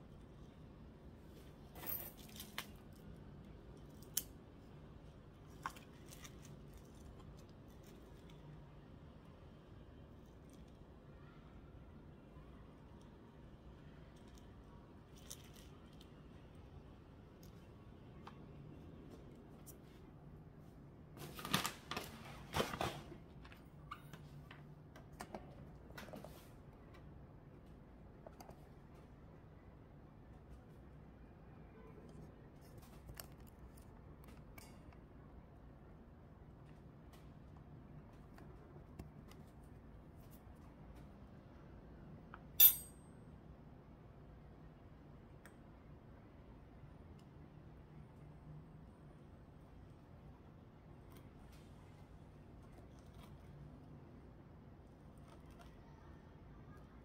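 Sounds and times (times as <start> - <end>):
faint low hum: 0.0 - 21.3, 22.2 - 57.0.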